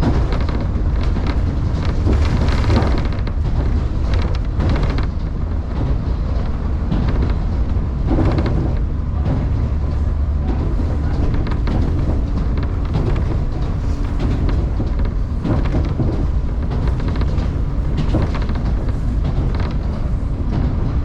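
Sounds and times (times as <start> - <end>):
train clattering: 0.0 - 21.0
train wheels rumbling on rail: 0.0 - 21.0.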